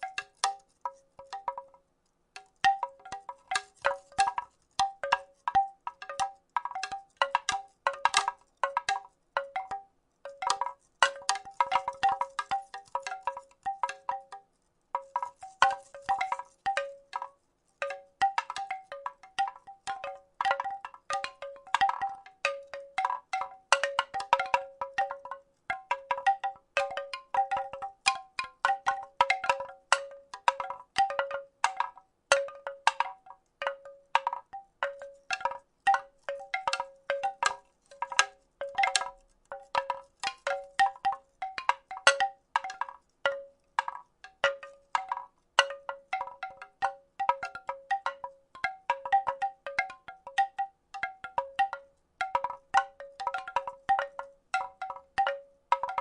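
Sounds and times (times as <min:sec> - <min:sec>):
wooden rattle shaken: 0:00.0 - 0:01.8, 0:02.4 - 0:56.0.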